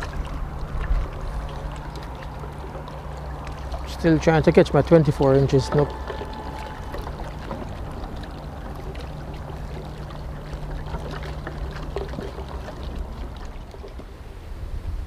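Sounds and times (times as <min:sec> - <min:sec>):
choppy water lapping and splashing: 0:00.0 - 0:15.0
faint steady hum: 0:00.0 - 0:15.0.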